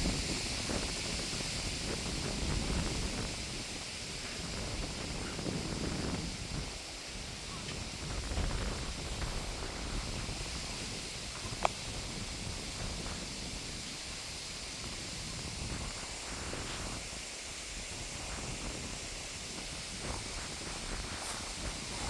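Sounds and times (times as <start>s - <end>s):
wind with rustling: 0.0s - 22.0s.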